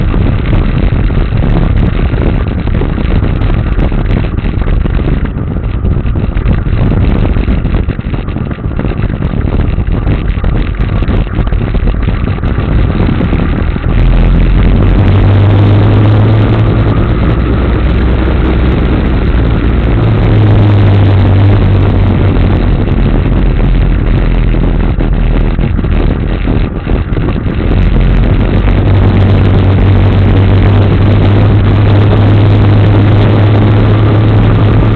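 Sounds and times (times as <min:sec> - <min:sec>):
heavy rushing noise: 0:00.0 - 0:34.9
motorcycle engine running: 0:00.0 - 0:34.9.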